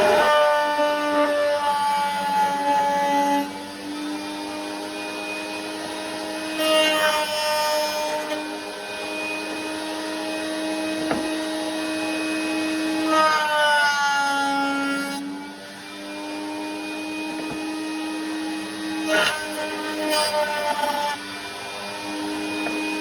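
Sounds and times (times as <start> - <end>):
router motor whine: 0.0 - 23.0.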